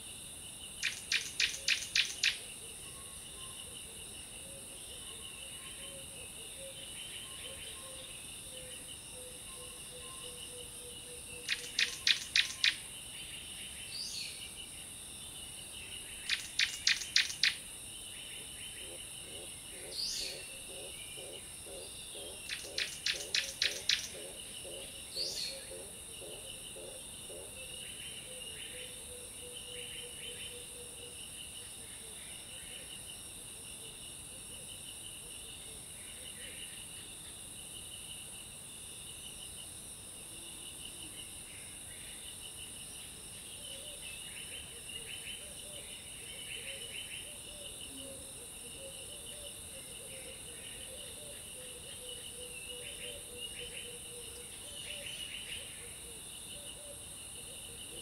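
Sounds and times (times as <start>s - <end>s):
crickets buzzing and trilling: 0.0s - 58.0s.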